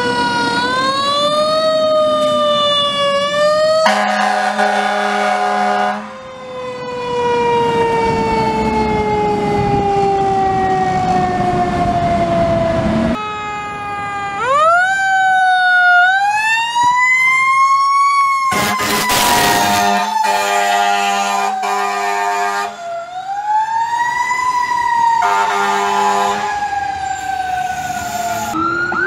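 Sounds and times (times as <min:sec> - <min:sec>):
siren horn blast: 0:00.0 - 0:17.0, 0:18.3 - 0:29.0
ambulance siren wailing: 0:00.0 - 0:29.0.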